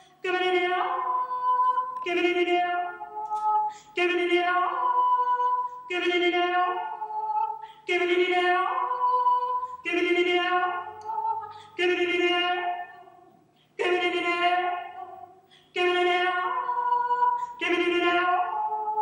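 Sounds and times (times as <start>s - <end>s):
woman singing wordless phrase: 0.0s - 19.0s.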